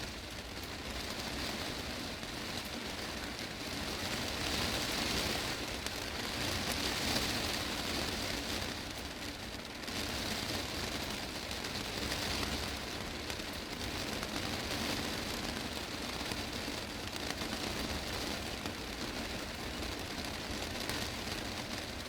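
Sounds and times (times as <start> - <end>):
heavy rain on glass roof: 0.0 - 22.0.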